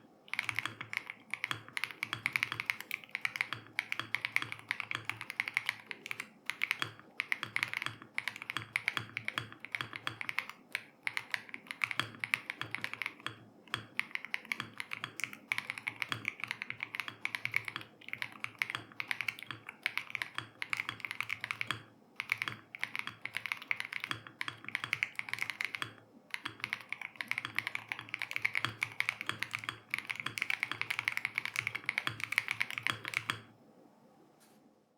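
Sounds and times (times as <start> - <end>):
mechanical keyboard typing: 0.3 - 33.5.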